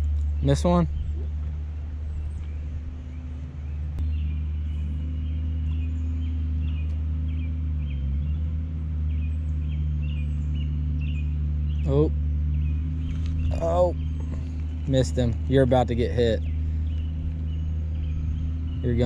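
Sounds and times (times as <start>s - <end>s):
bird chirping: 0.0s - 19.0s
motor humming: 0.0s - 19.0s.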